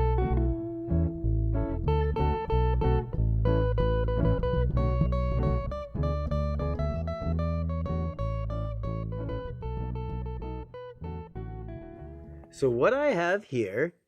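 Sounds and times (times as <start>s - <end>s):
steady bass line: 0.0s - 12.6s
plucked acoustic guitar: 0.0s - 12.7s.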